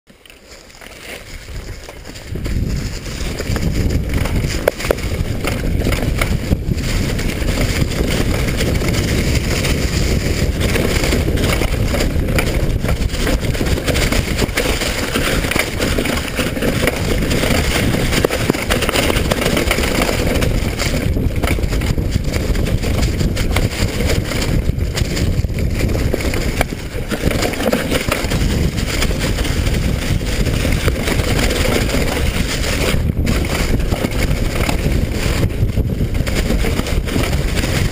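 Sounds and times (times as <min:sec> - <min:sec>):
wind rushing over microphone: 0:01.2 - 0:37.9.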